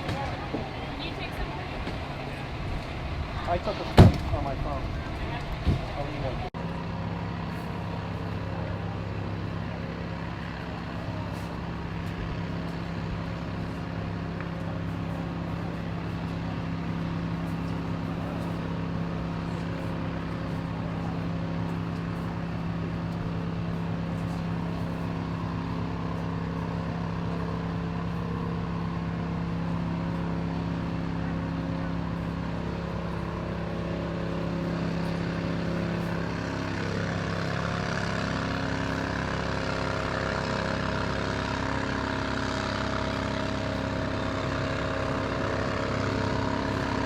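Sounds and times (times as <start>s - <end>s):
fire engine engine droning: 0.0s - 47.0s.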